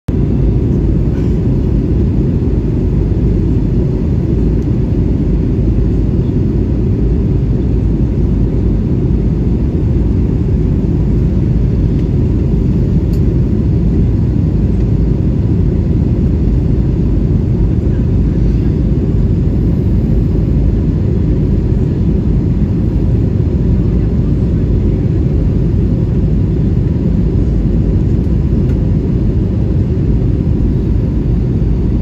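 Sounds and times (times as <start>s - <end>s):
airplane cabin engine drone: 0.1s - 32.0s.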